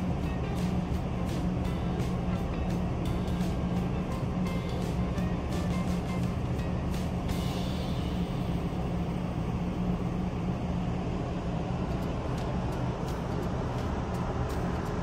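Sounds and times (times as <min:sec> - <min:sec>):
ship engine droning: 0:00.0 - 0:15.0.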